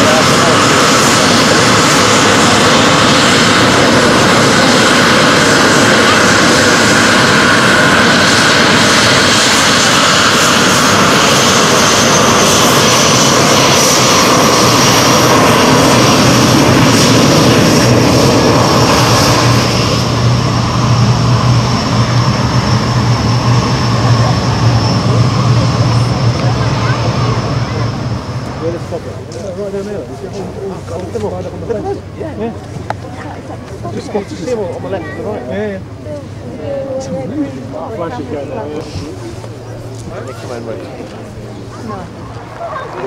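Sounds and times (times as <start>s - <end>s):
high engine whine: 0.0s - 43.0s
jet engines running: 0.0s - 43.0s.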